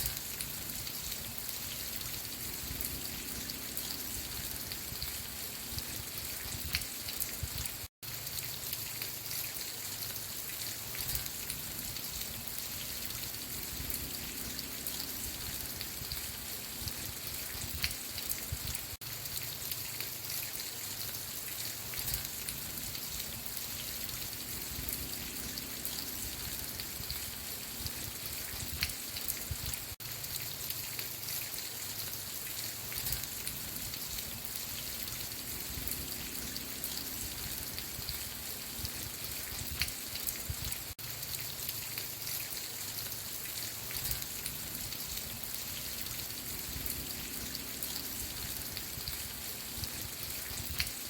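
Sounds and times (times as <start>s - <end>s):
raindrops ticking: 0.0s - 51.0s
steady rain falling: 0.0s - 51.0s.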